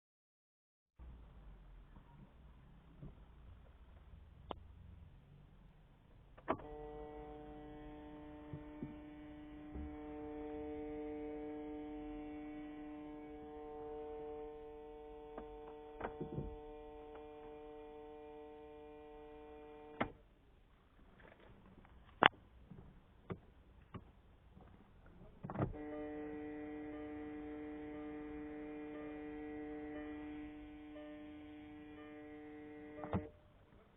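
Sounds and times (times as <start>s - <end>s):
electrical hum in car cabin: 1.0s - 20.2s, 25.2s - 33.4s.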